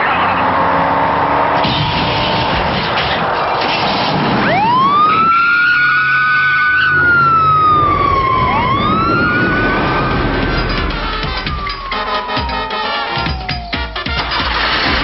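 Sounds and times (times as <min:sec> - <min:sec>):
police siren wailing: 0:00.0 - 0:02.6, 0:04.3 - 0:15.0.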